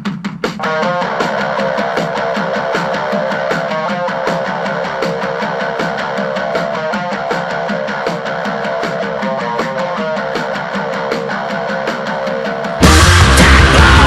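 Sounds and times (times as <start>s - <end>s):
drum beat: 0.0s - 14.0s
distorted electric guitar riff: 0.6s - 14.0s.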